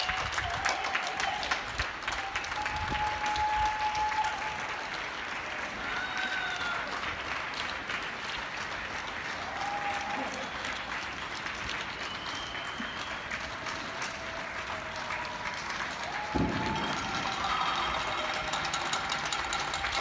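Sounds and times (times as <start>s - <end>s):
crowd clapping: 0.0s - 20.0s.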